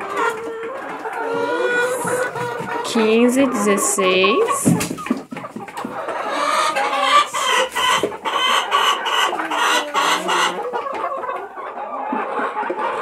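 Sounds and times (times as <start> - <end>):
hens clucking and cackling: 0.0 - 13.0.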